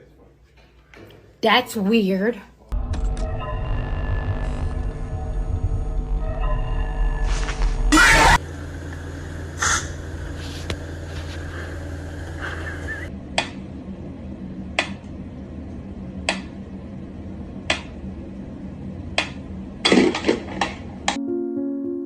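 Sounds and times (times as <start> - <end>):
steady low hum: 2.6 - 21.4.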